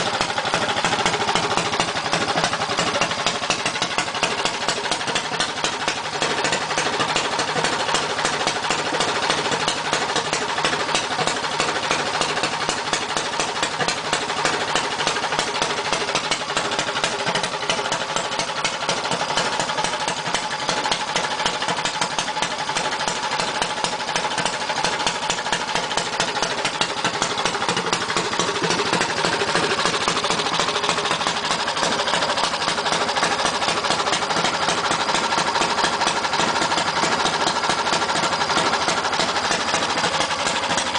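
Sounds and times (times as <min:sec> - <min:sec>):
kart engine running steadily: 0:00.0 - 0:40.9.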